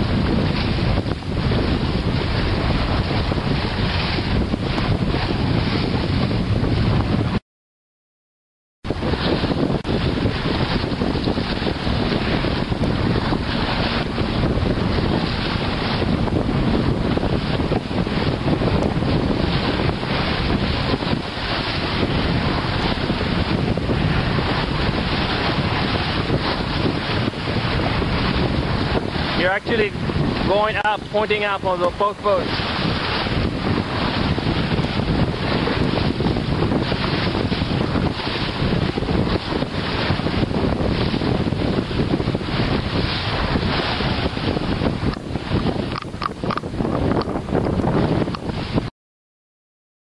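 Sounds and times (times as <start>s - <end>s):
water rushing past hull: 0.0s - 7.4s, 8.9s - 48.9s
wind noise on microphone: 0.0s - 7.4s, 8.8s - 48.9s.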